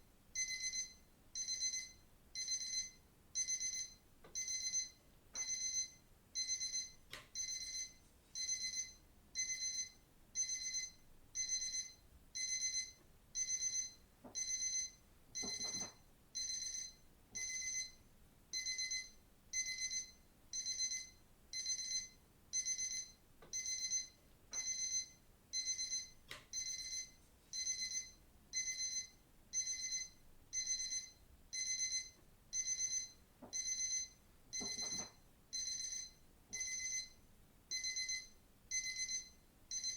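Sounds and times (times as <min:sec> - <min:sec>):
digital watch alarm beeping: 0:00.4 - 0:18.0, 0:18.6 - 0:39.9.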